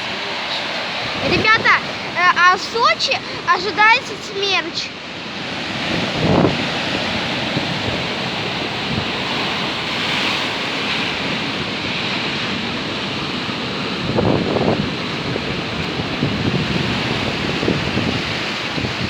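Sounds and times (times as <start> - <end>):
stormy sea surf breaking: 0.0 - 19.0
wind buffeting the microphone: 0.0 - 19.0.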